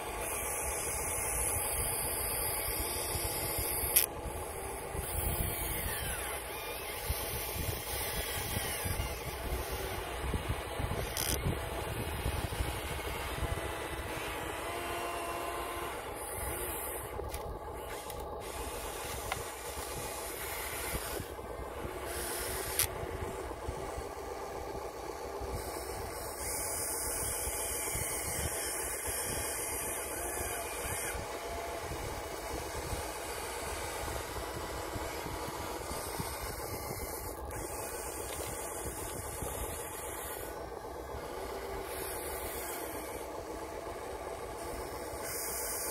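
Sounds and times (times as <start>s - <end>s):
toy excavator motor whirring: 0.0s - 45.9s.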